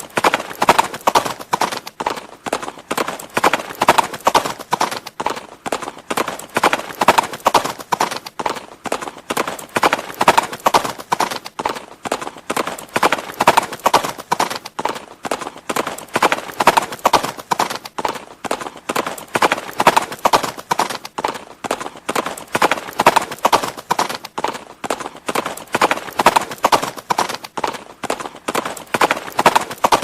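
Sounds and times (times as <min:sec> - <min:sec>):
horse hooves clip-clopping: 0:00.0 - 0:30.0.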